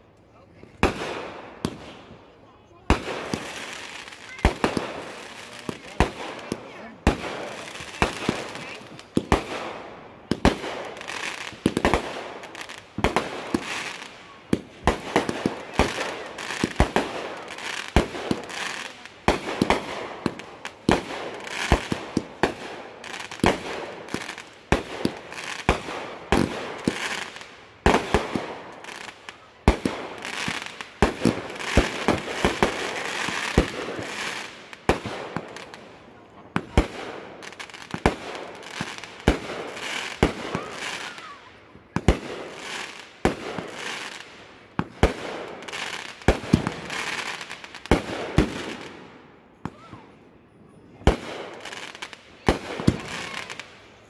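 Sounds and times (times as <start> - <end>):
fireworks bangs: 0.6 - 50.2, 51.0 - 53.9.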